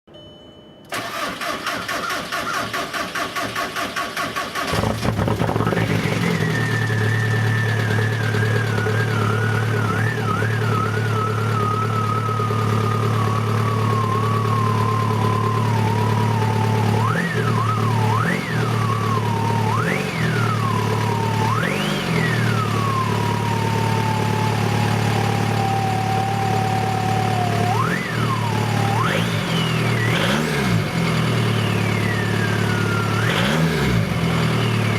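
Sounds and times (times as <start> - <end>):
diesel engine cranking: 0.9 - 34.9
engine revving: 2.4 - 34.9
diesel engine idling loudly: 4.7 - 34.9.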